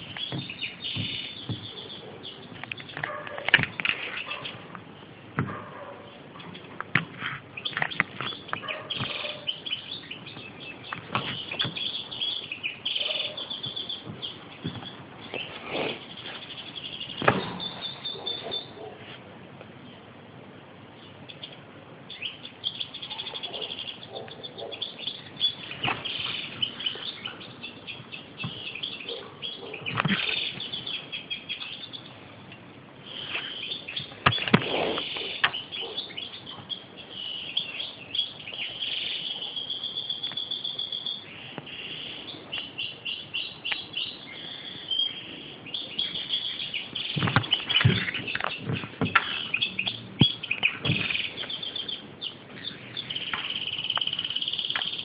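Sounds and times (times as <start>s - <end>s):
bird singing twittering song: 0.0s - 6.8s, 7.4s - 18.9s, 20.9s - 55.0s.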